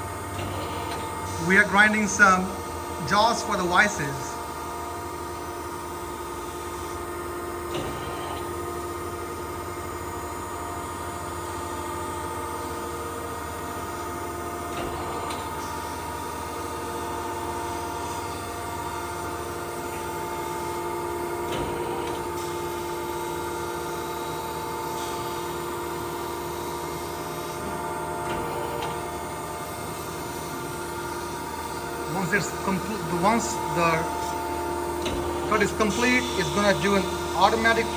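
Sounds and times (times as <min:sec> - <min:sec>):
grinder machine hum: 0:00.0 - 0:37.9.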